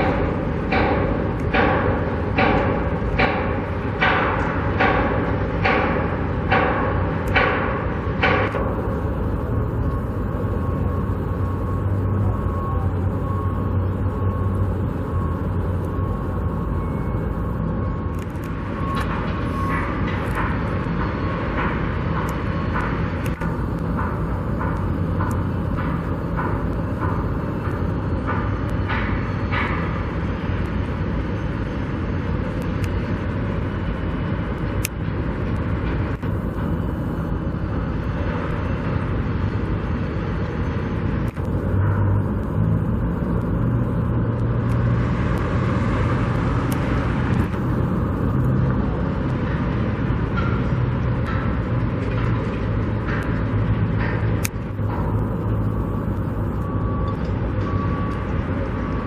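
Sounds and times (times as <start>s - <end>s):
vehicle engines rumbling: 0.0s - 59.0s
low engine hum: 7.4s - 59.0s.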